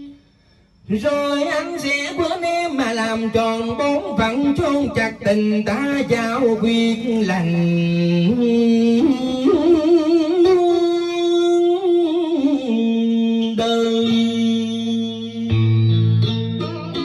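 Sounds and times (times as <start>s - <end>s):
man singing into karaoke microphone: 0.0s - 0.2s, 0.8s - 17.0s
backing track: 0.0s - 17.0s.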